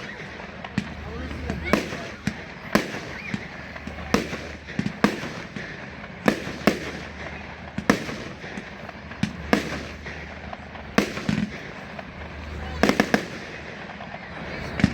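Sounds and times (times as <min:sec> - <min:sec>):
fireworks bursting: 0:00.0 - 0:14.9.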